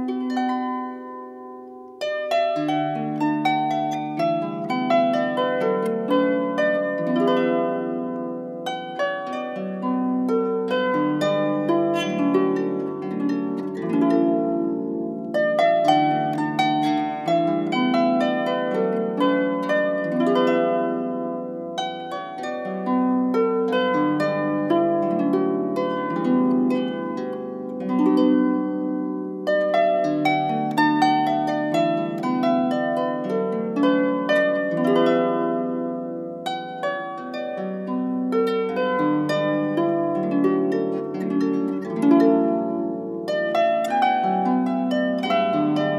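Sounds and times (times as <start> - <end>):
harp-like plucked string melody: 0.0 - 45.9.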